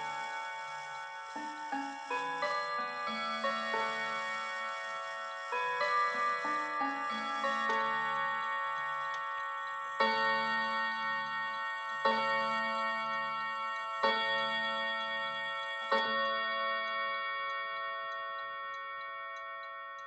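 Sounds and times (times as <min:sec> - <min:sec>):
clock chime striking: 0:00.0 - 0:20.0
clock ticking: 0:00.0 - 0:20.0.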